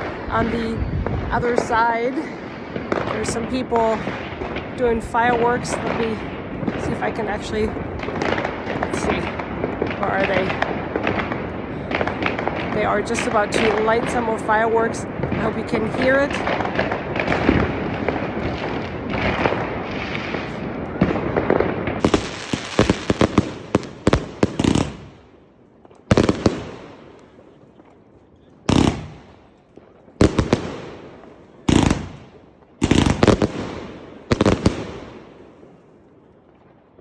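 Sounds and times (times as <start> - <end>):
fireworks bangs echoing: 0.0 - 36.8
fireworks crackling: 0.0 - 37.0.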